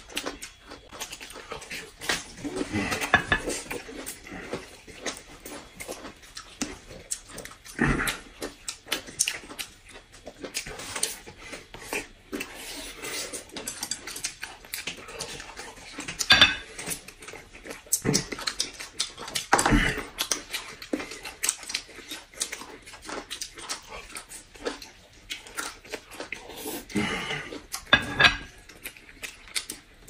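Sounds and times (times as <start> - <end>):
people chewing and lip-smacking: 0.0 - 30.0.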